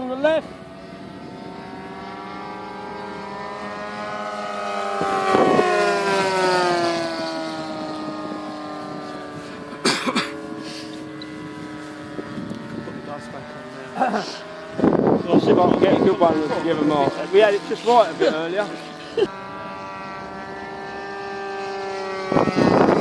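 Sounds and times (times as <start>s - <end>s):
model plane engine passing: 0.0s - 23.0s.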